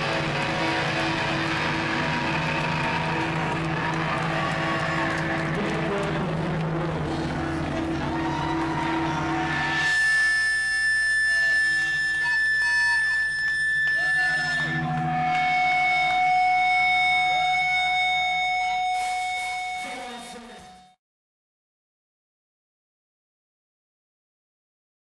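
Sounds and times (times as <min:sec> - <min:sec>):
low amplifier drone: 0:00.0 - 0:20.9
guitar amplifier feedback whine: 0:00.0 - 0:21.0.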